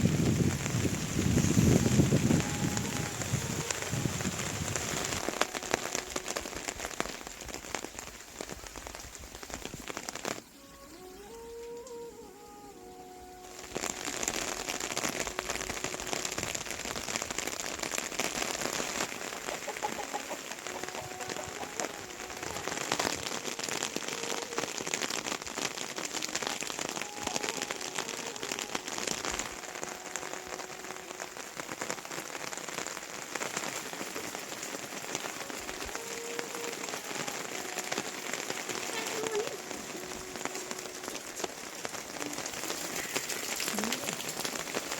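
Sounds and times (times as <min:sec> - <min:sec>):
rain pattering on a surface: 0:00.0 - 0:44.9.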